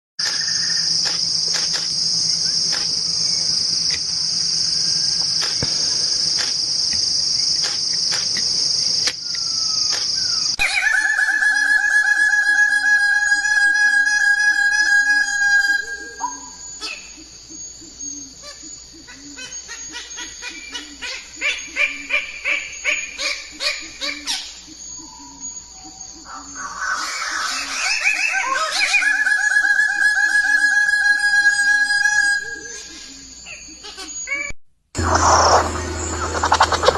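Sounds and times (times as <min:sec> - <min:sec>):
rhythmic repeated calls: 0:00.2 - 0:31.6
high-pitched insect drone: 0:00.2 - 0:36.9.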